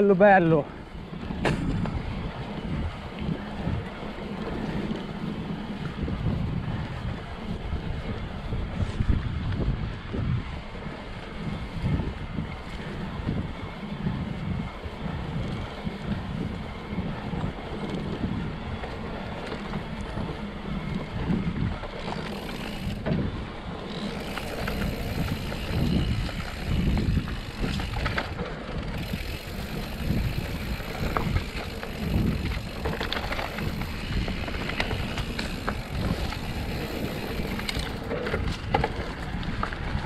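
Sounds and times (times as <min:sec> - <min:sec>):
bike rattling over bumps: 0:00.0 - 0:40.0
bike tyres rolling on dirt: 0:00.0 - 0:40.0
wind rumble on microphone: 0:00.0 - 0:40.0.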